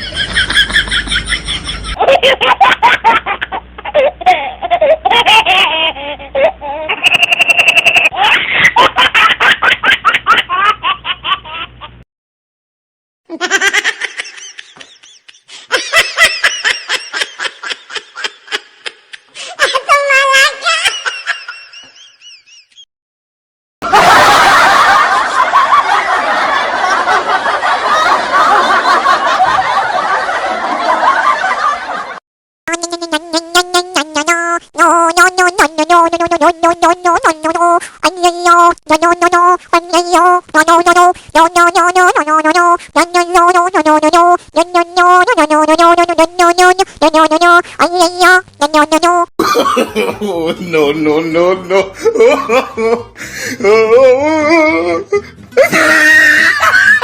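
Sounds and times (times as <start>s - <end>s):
high-pitched comedic laughter: 0.0s - 12.0s, 13.3s - 22.8s, 23.8s - 57.0s.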